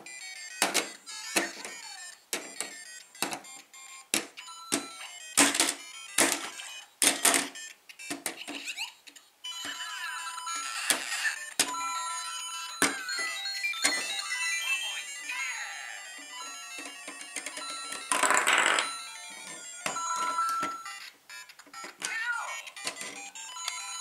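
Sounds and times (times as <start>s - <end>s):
electronic toy game sound effects: 0.0s - 24.0s.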